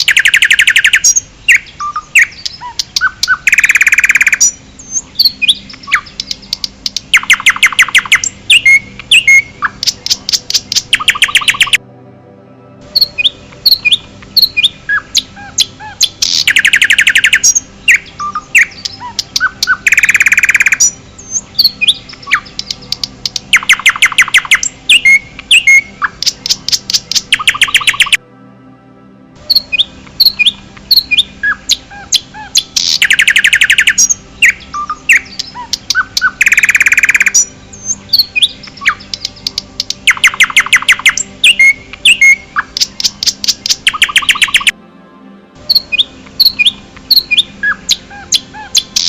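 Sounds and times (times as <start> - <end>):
bird chirps and whistles: 0.0 - 11.8, 13.0 - 28.2, 29.5 - 44.7
songbird trills: 0.0 - 11.8, 12.8 - 28.2, 29.4 - 44.8, 45.6 - 49.0.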